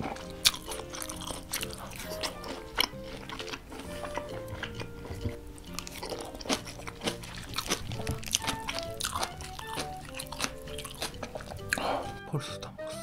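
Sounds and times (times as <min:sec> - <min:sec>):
background music: 0:00.0 - 0:13.0
chewing noodles: 0:00.0 - 0:13.0.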